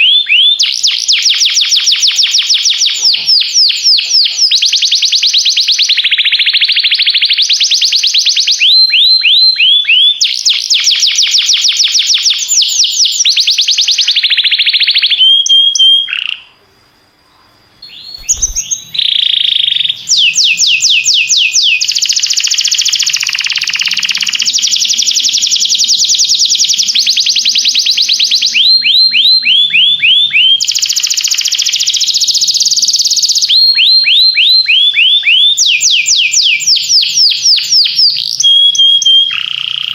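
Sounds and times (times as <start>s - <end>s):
canary singing trills: 0.0s - 16.6s, 17.4s - 39.9s.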